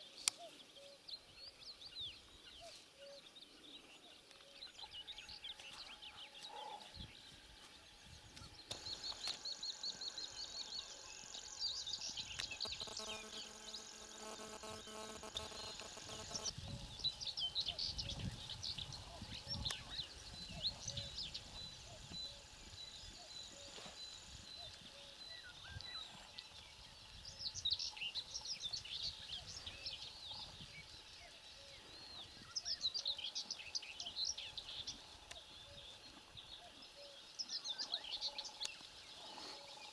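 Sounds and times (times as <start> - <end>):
faint outdoor background noise: 0.0 - 39.9
small birds chirping: 0.0 - 39.9.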